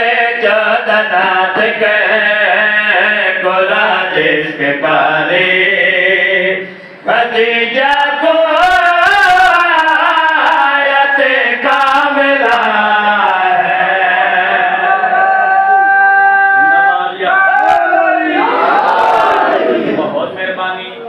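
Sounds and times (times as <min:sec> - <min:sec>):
man singing through microphone: 0:00.0 - 0:17.8.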